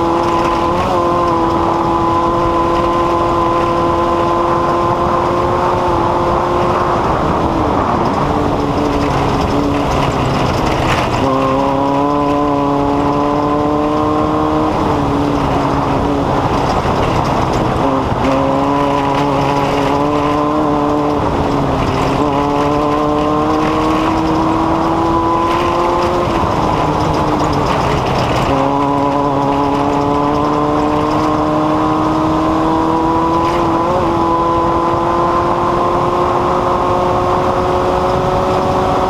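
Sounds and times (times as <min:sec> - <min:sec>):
engine whining: 0:00.0 - 0:39.0.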